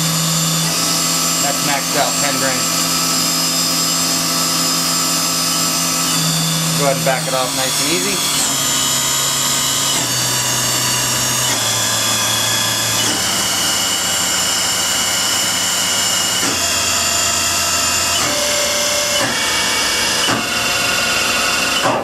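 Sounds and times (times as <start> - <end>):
milling spindle whining: 0.0 - 21.9.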